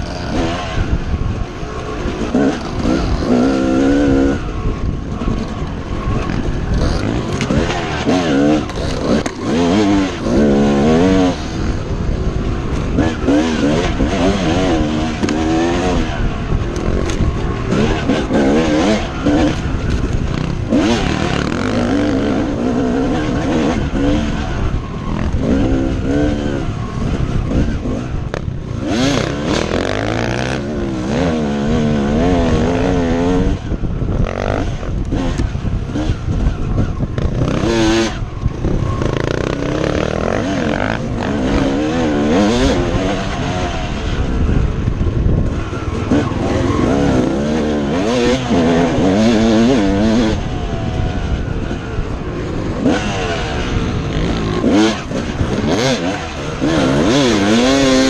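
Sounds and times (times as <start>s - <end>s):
dirt bike engine revving: 0.0s - 58.0s
wind noise: 0.0s - 58.0s.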